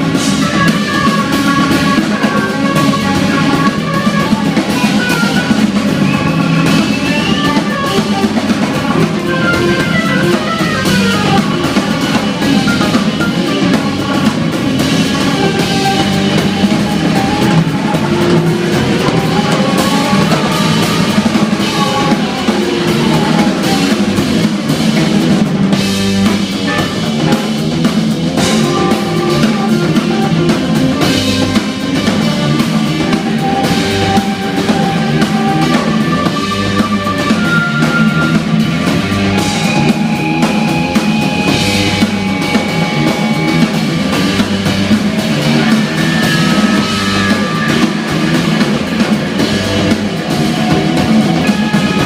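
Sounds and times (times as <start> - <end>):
bass guitar: 0.0 - 52.0
busy drum kit: 0.0 - 52.0
keyboard lines: 0.0 - 52.0.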